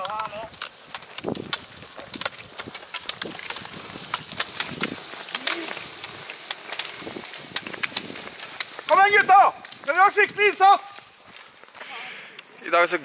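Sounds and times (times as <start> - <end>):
hiss from wet road: 0.0 - 12.4
ski pole tips clicking on asphalt: 0.0 - 12.5.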